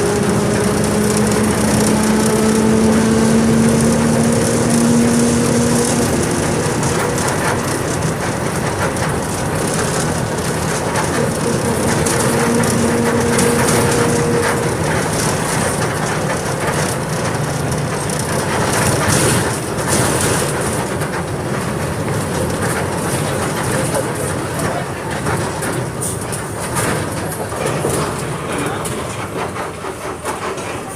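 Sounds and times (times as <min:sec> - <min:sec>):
bus engine and road noise: 0:00.0 - 0:30.9.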